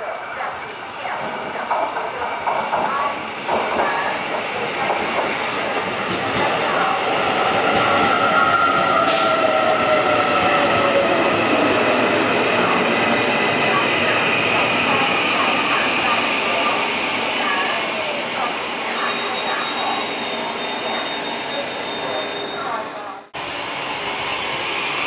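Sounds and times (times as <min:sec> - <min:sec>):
train wheels squealing: 0:00.0 - 0:25.0.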